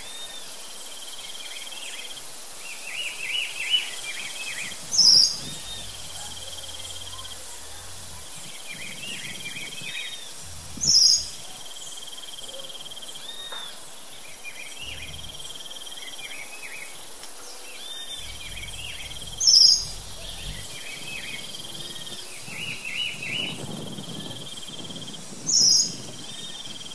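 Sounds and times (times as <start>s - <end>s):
birds chirping: 0.0s - 24.7s
insect trill: 0.0s - 26.9s.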